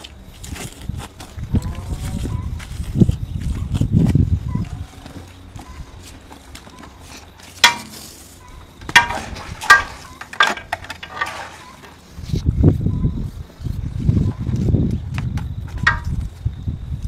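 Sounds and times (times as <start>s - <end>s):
heavy low work sounds: 0.0s - 16.6s.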